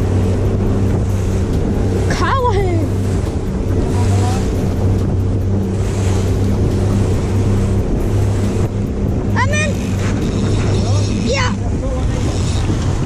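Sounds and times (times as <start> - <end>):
boat engine humming: 0.0 - 13.0
water noise: 0.0 - 13.0
wind buffeting microphone: 0.0 - 13.0.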